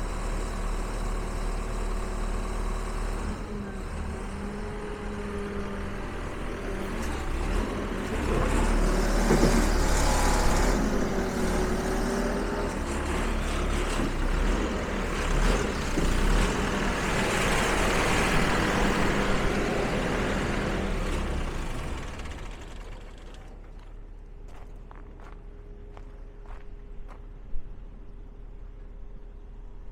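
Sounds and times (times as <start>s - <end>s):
heavy vehicle engine running: 0.0s - 29.8s.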